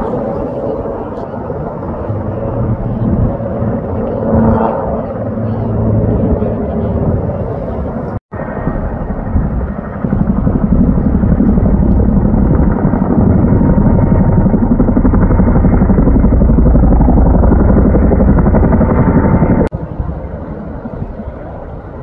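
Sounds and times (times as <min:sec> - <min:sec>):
helicopter rotors beating: 0:00.0 - 0:22.0.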